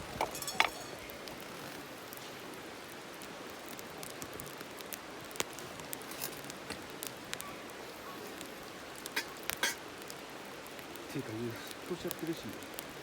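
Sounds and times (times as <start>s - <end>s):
fire crackles and pops: 0.0s - 13.0s
food sizzling over campfire: 0.0s - 13.0s.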